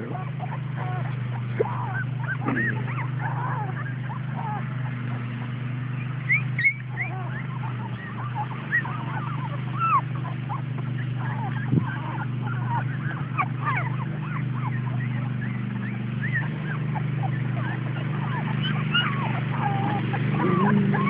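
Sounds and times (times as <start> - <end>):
puppies whimpering and squeaking: 0.0 - 21.0
steady low hum: 0.0 - 21.0.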